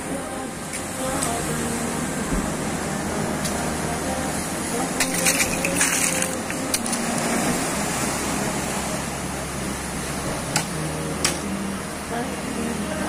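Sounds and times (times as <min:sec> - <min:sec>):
sea surf breaking over rocks: 0:00.0 - 0:13.0.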